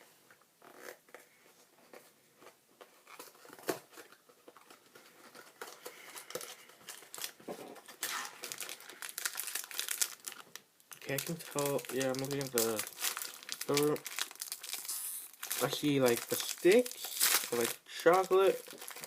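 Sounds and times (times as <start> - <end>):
snack package crinkling: 3.2 - 19.0.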